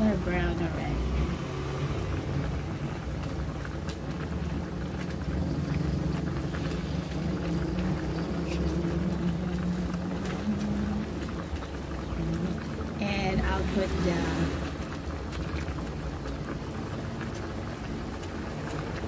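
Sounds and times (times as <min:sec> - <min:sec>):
sauce simmering in a wok: 0:00.0 - 0:19.0
steady low hum: 0:01.9 - 0:19.0.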